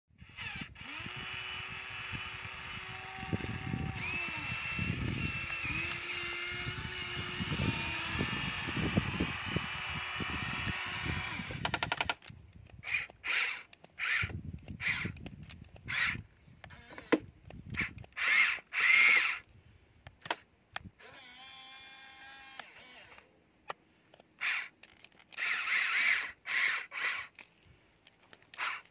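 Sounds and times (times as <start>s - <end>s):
gear clicks: 0.2s - 19.5s, 22.5s - 28.9s
toy electric motors whirring: 0.2s - 19.5s, 20.3s - 23.3s, 24.1s - 28.9s.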